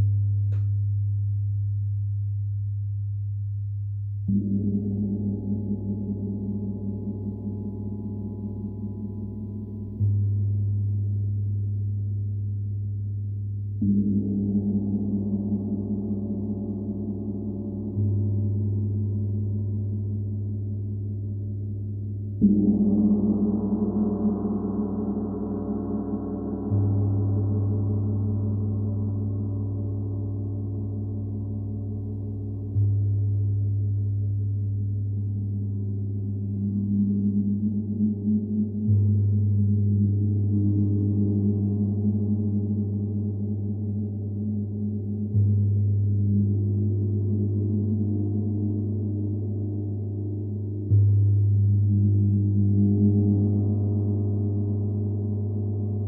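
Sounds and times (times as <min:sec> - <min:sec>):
deep hum: 0:00.0 - 0:56.0.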